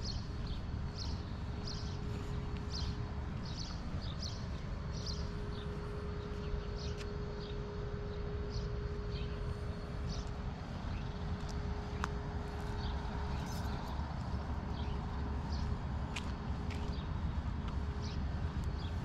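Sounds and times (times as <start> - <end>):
faint steady hum: 0.0 - 19.0
footsteps crunching on gritty road: 0.0 - 19.0
steady low rumble: 0.0 - 19.0.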